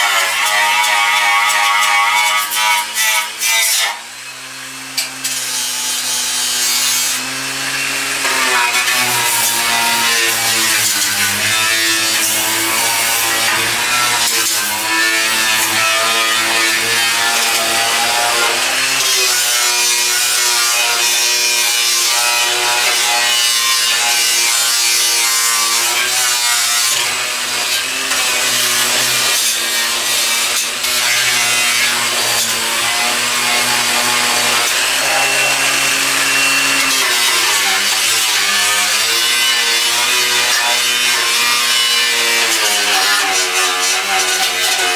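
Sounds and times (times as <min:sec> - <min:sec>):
angle grinder grinding steel: 0:00.0 - 0:44.9.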